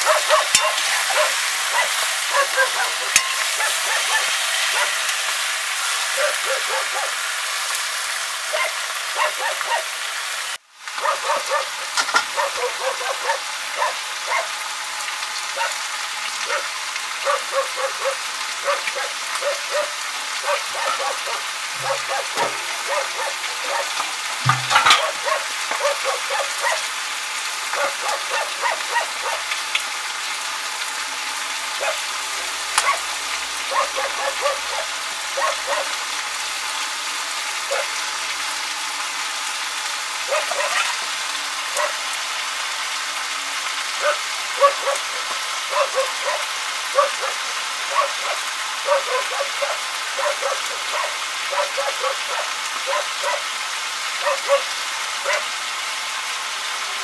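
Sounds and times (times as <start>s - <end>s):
meat sizzling in a pan: 0.0s - 57.0s.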